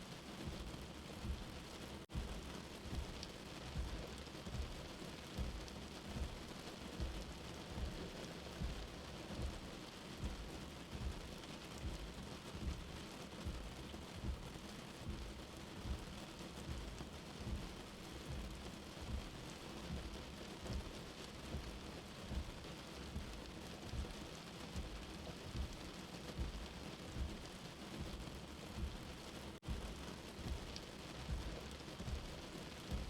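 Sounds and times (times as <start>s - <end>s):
steady rain: 0.0s - 33.0s
soft heartbeat thumping: 0.3s - 33.0s.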